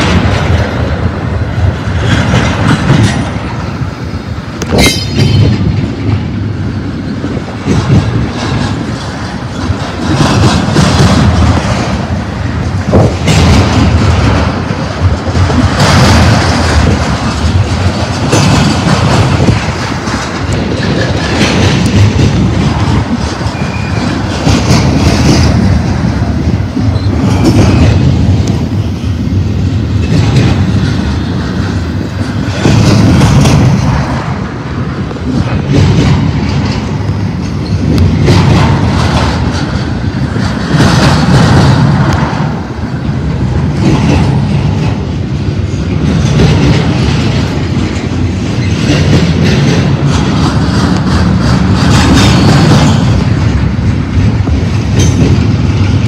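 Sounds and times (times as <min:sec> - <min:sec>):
train wheels clattering over rails: 0:00.0 - 0:56.0.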